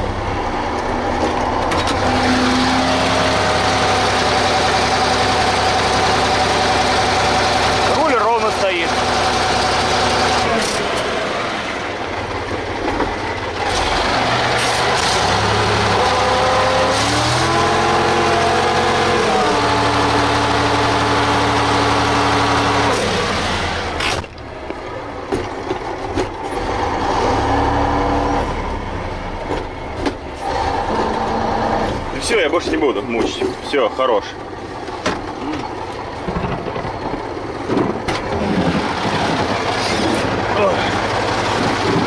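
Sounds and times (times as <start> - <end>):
truck diesel engine revving: 0.0 - 42.0.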